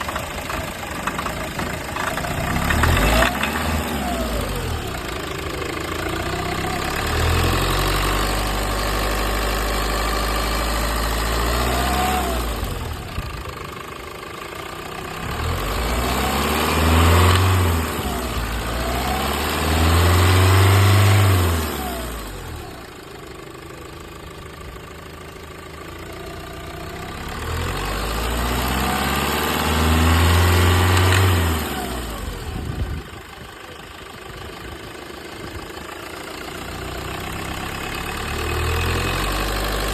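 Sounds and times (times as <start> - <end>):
diesel engine revving: 0.0 - 23.1, 26.0 - 33.5, 35.4 - 39.9.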